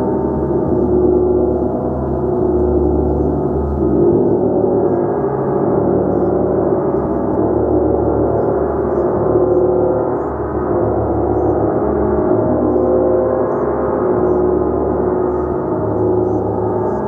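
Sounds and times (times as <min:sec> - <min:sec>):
large gong: 0:00.0 - 0:17.0.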